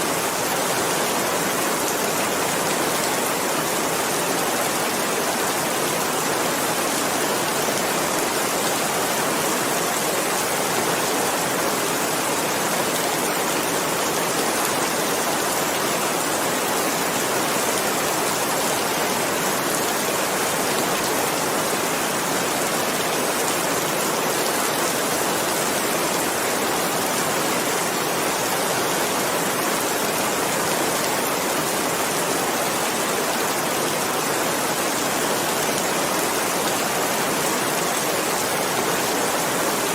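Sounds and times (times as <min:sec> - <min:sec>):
steady dense rainfall: 0:00.0 - 0:39.9.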